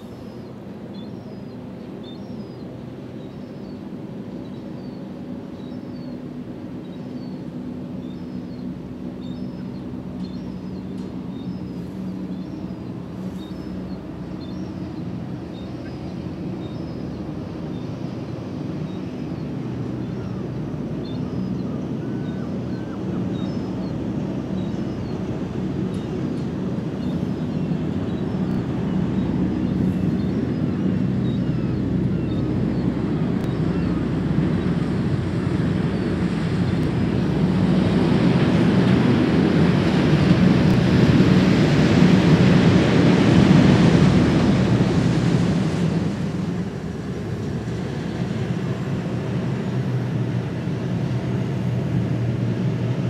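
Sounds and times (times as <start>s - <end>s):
low engine hum: 0.0s - 53.0s.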